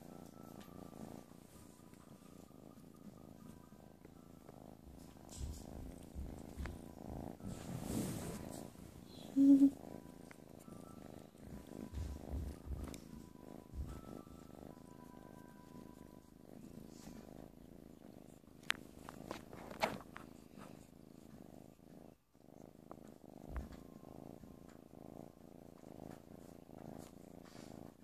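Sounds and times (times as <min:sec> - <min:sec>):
kitten purring: 0:00.0 - 0:28.0.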